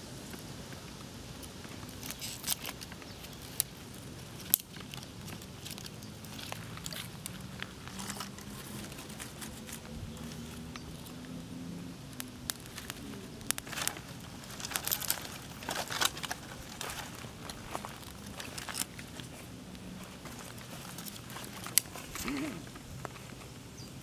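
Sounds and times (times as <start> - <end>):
small fire crackling: 0.0 - 24.0.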